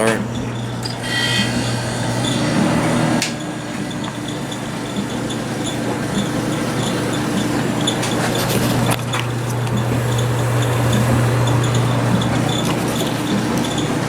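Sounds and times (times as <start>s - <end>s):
clothes dryer running: 0.0s - 14.0s
dehumidifier humming: 0.0s - 14.0s.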